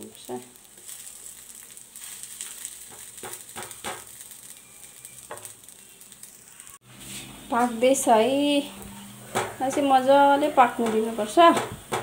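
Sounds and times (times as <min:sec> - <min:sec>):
flatbread sizzling on a pan: 0:00.0 - 0:12.0.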